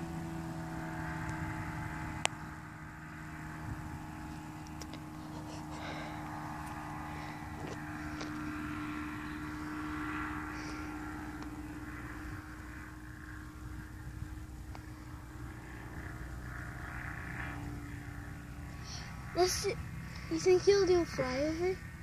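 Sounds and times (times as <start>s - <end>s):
airplane engine and propeller droning: 0.0s - 22.0s.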